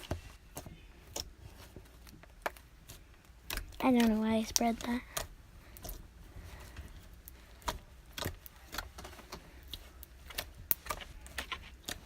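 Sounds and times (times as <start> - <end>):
small clicks and pops: 0.0 - 6.0, 6.7 - 12.0
slime being squished: 0.0 - 12.0.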